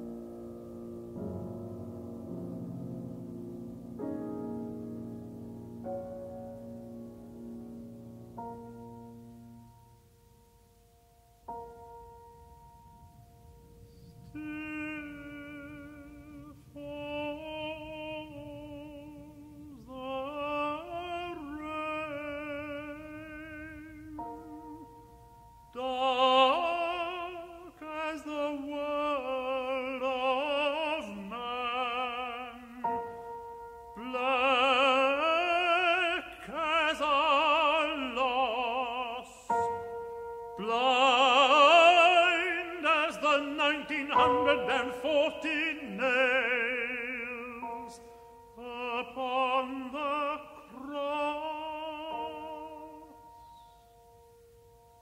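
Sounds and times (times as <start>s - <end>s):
sustained piano chords: 0.0s - 55.0s
tenor singing with vibrato: 0.0s - 55.0s.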